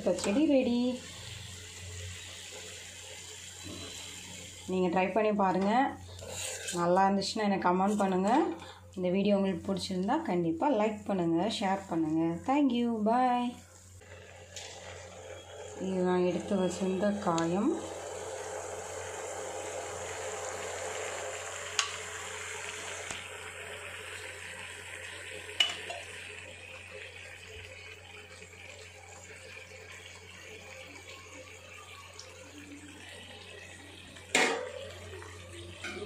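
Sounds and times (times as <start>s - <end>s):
liquid simmering and sizzling: 0.0s - 36.0s.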